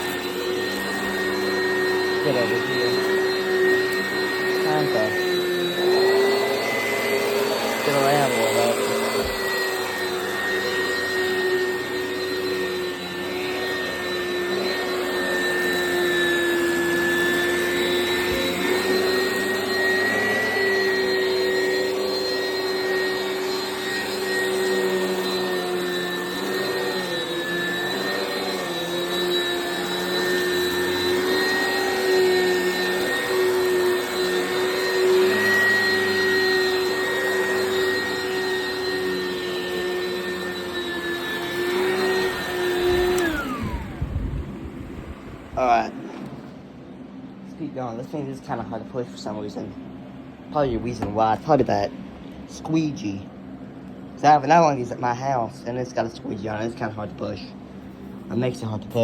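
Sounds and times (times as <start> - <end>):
vacuum cleaner whine: 0.0 - 59.0.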